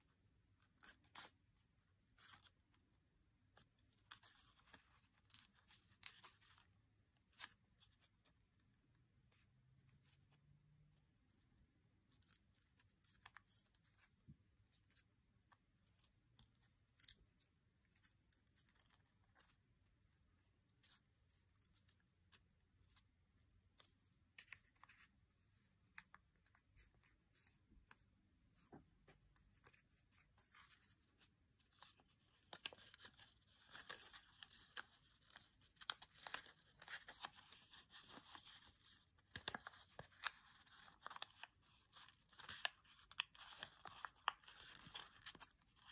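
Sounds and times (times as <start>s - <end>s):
paper crinkling while folded: 0.4s - 28.7s, 29.3s - 45.9s.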